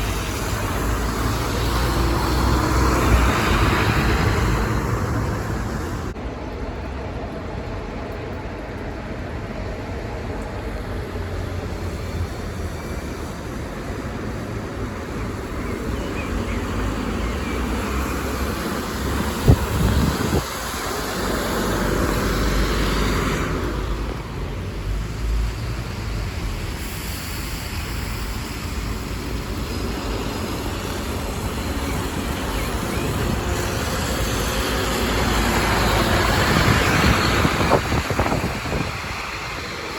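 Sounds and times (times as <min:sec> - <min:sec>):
bus engines rumbling: 0:00.0 - 0:39.9.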